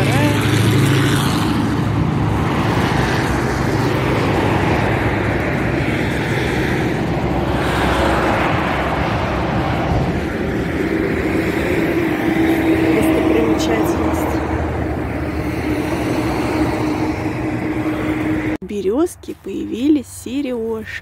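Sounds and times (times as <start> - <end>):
highway traffic rushing: 0.0 - 21.0.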